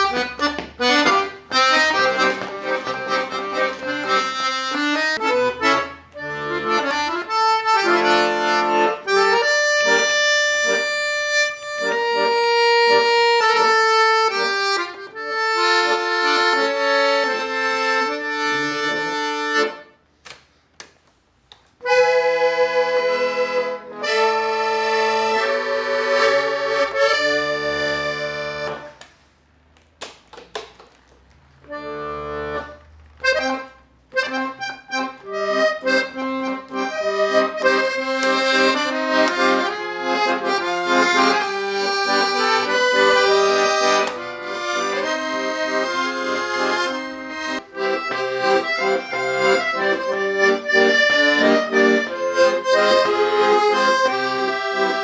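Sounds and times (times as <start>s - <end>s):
accordion playing: 0.0s - 20.4s, 21.4s - 55.0s.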